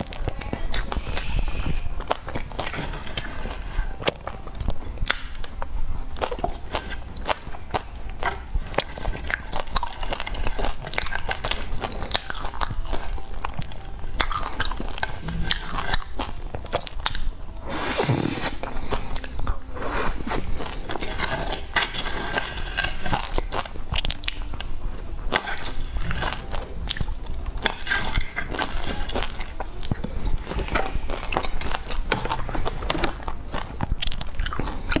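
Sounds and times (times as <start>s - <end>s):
chewing and wet mouth clicks: 0.0s - 17.3s, 20.3s - 35.0s.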